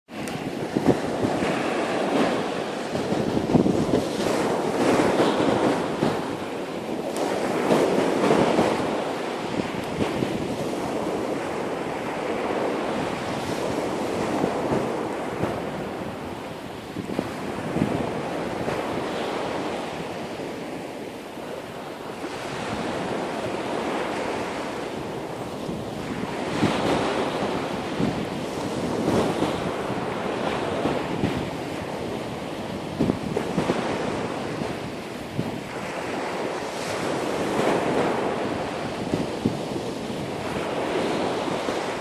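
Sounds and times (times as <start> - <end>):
surf breaking on beach: 0.1 - 42.0
wind buffeting microphone: 0.1 - 42.0.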